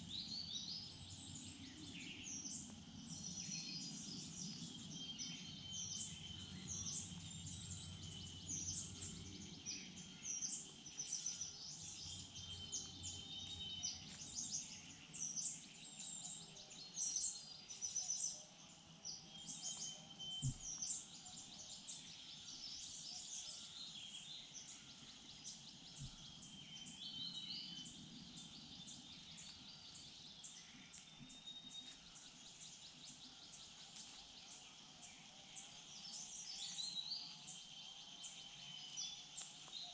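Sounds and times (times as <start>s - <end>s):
outdoor background hiss: 0.0s - 39.9s
small birds chirping: 0.0s - 39.9s.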